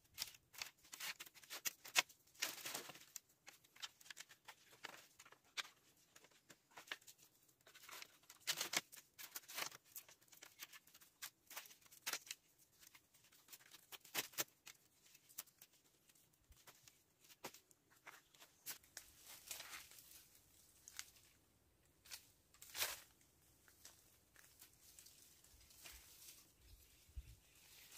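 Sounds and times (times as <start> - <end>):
cord rustling and scraping: 0.0 - 21.4, 22.0 - 27.9.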